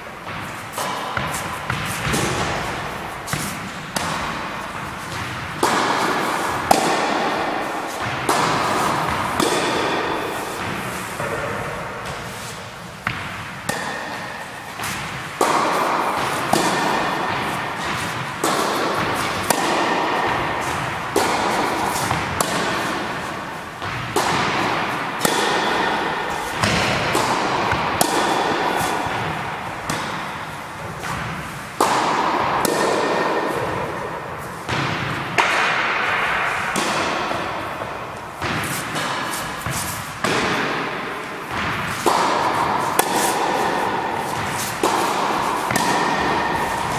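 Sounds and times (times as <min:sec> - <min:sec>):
racket hitting tennis ball: 0:00.0 - 0:46.9.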